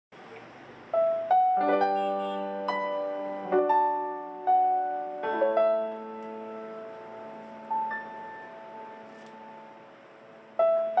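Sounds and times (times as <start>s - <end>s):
piano chords with melody: 0.8s - 11.0s.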